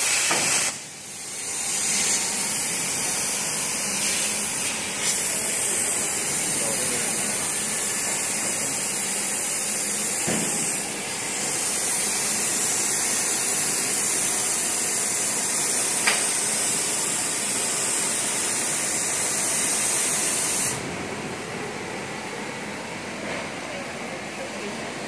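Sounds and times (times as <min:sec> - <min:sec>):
plasma torch hissing: 0:00.0 - 0:20.8.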